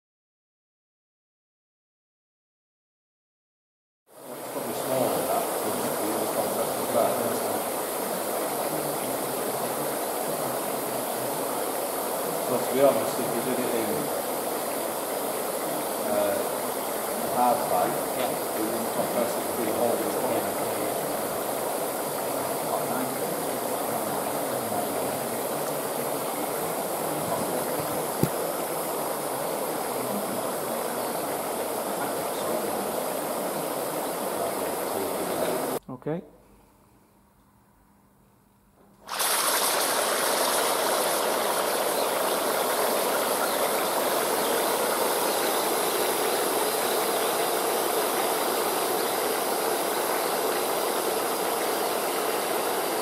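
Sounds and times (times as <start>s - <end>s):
water churning: 4.2s - 35.8s, 39.1s - 53.0s.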